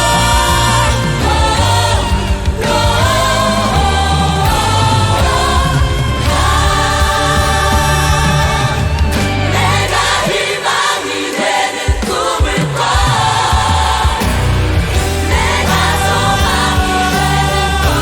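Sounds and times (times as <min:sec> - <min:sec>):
instrumental backing: 0:00.0 - 0:11.1, 0:12.6 - 0:18.0
choir singing: 0:00.0 - 0:18.0.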